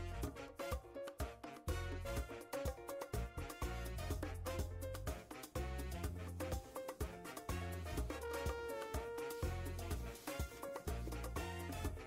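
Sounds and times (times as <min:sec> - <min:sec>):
upbeat music with beat: 0:00.0 - 0:12.0.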